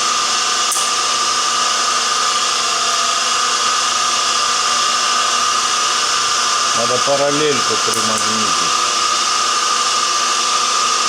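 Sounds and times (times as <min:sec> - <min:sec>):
surface grinder running: 0:00.0 - 0:11.0.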